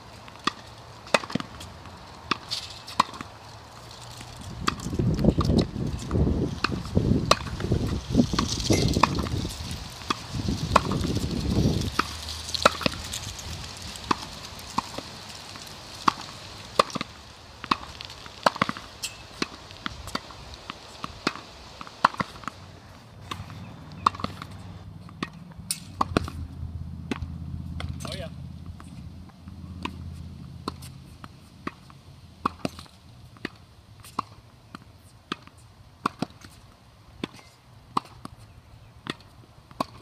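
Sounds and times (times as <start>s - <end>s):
tennis balls struck by rackets: 0.1s - 3.5s, 4.1s - 40.0s
tennis balls bouncing on court: 0.1s - 40.0s.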